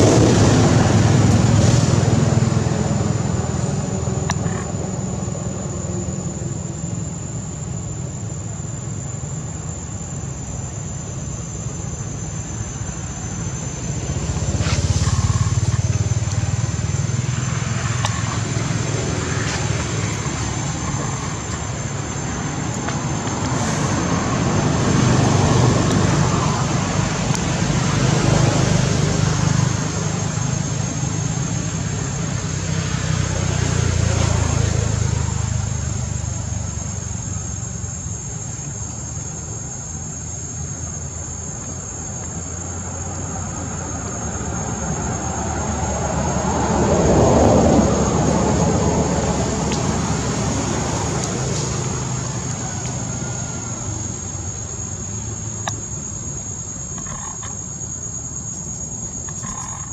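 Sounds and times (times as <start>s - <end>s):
high insect drone: 0.0s - 59.9s
traffic engine rumble: 0.0s - 59.9s.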